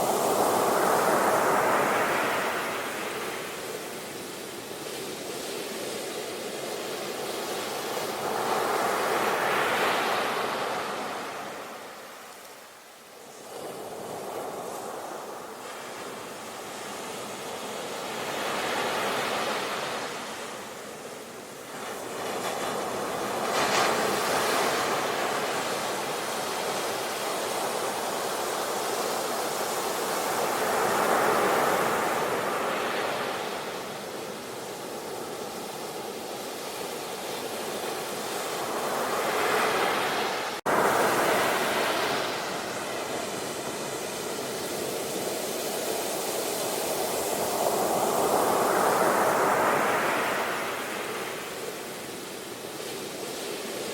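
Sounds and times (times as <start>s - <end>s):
ocean waves washing ashore: 0.0s - 53.9s.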